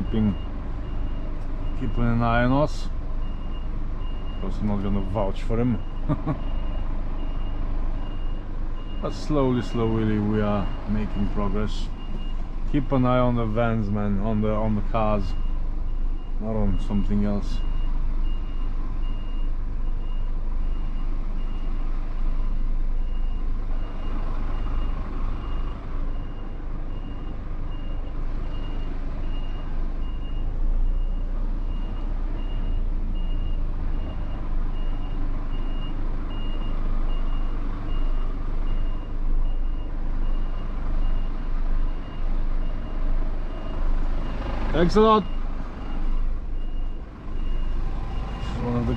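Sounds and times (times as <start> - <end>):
truck engine rumble: 0.0 - 48.9
truck warning beeper: 0.0 - 48.9.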